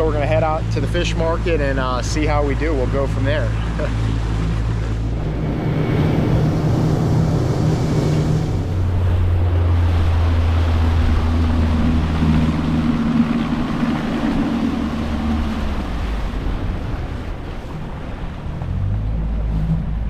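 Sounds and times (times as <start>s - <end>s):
boat engine droning: 0.0s - 20.0s
rushing water: 0.0s - 20.0s
rushing wind: 0.0s - 20.0s.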